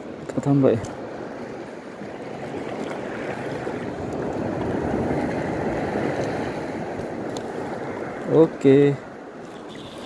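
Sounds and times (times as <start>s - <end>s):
surf washing over reef: 0.0s - 10.0s.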